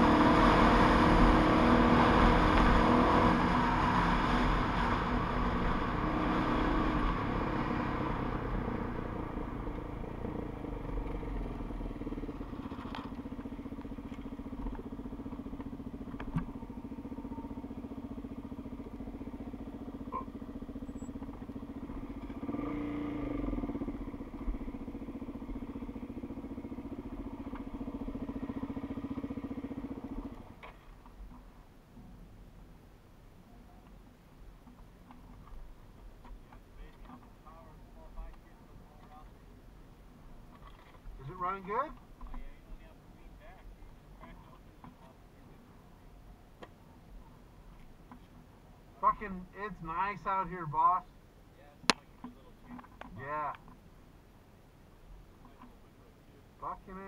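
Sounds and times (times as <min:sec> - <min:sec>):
dirt bike engine: 0:00.0 - 0:31.6, 0:40.5 - 0:57.0
wind and road noise: 0:00.0 - 0:57.0.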